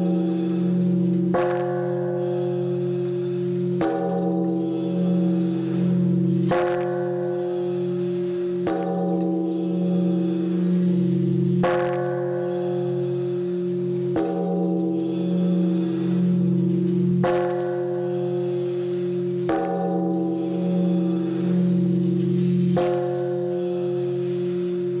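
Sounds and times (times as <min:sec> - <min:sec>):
large bell struck with wooden beam: 0:00.0 - 0:25.0.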